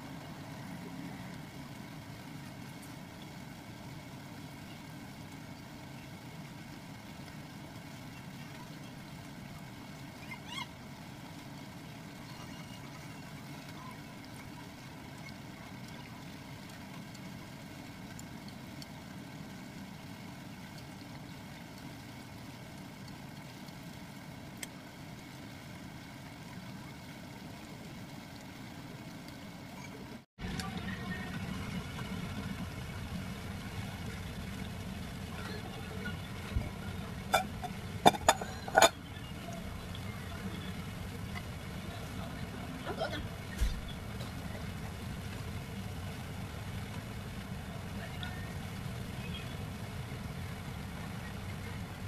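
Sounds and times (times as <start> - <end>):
shallots deep-frying in oil: 0.0 - 52.0.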